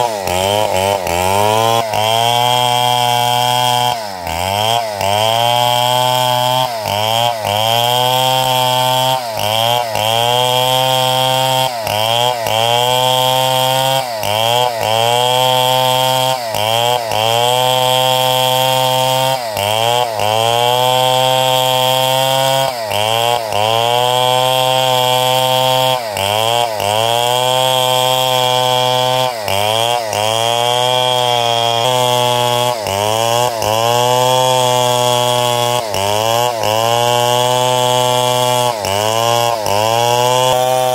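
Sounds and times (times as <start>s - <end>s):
engine-driven saw cutting timber: 0.0s - 40.9s.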